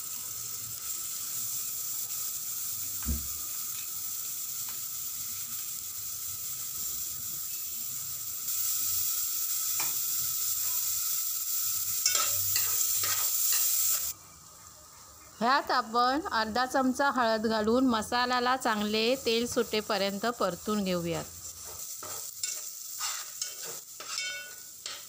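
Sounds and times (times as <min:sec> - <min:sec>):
onion sizzling in hot oil: 0:00.0 - 0:25.0.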